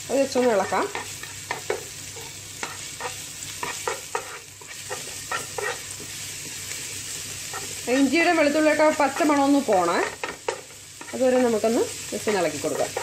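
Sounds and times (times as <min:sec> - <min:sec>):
ginger and garlic sizzling in oil: 0:00.0 - 0:13.0
spatula scraping and tapping pan: 0:00.2 - 0:11.6, 0:12.2 - 0:13.0.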